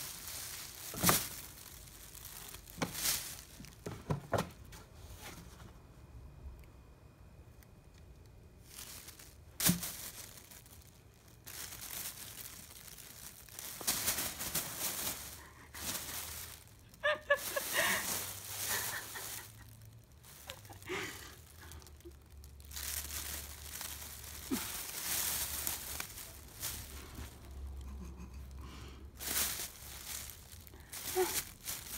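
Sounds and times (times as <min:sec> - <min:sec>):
plastic bag crinkling: 0:00.0 - 0:04.7, 0:08.0 - 0:31.9.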